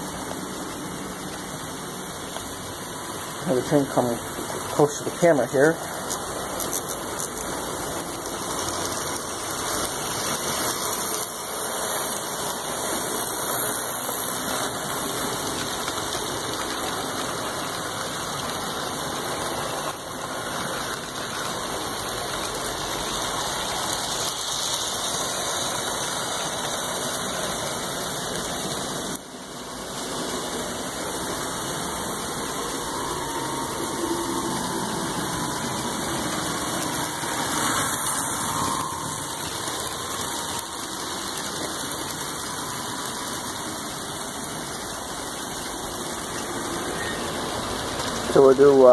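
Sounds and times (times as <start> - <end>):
model train running on track: 0.0 - 48.9.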